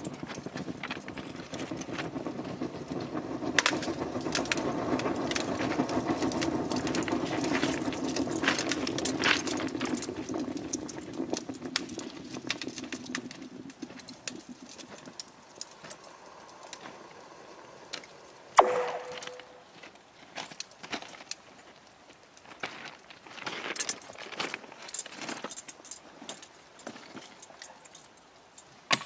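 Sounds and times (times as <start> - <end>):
thermite burning with crackles: 0.0 - 28.9.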